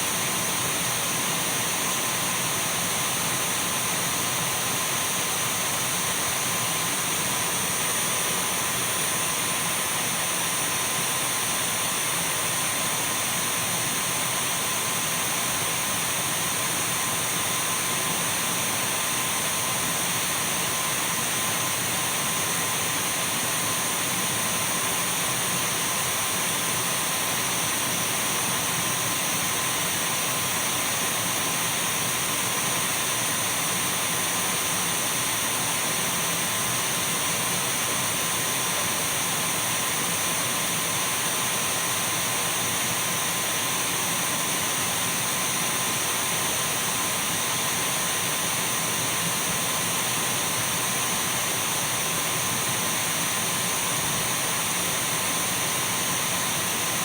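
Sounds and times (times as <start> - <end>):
cordless vacuum running: 0.0 - 57.0.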